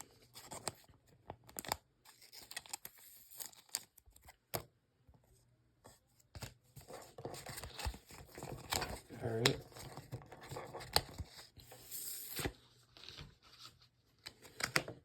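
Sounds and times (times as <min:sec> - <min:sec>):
cards and wrappers rustling: 0:00.0 - 0:04.4, 0:06.2 - 0:15.0.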